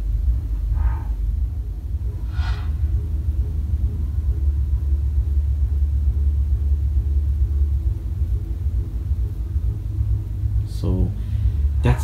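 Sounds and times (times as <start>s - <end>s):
muffled bass of party music: 0.0s - 12.0s.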